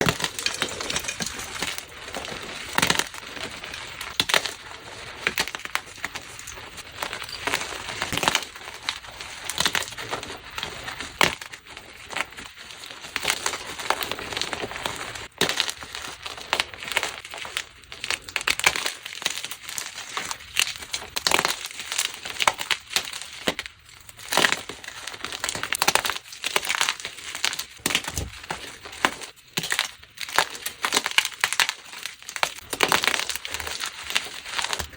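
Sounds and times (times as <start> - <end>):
chalk blocks being crushed: 0.0 - 34.9.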